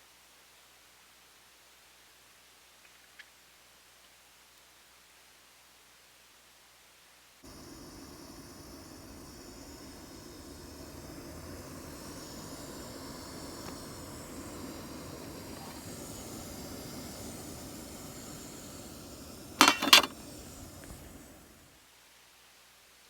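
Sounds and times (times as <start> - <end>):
steady hissing noise: 0.0 - 23.0.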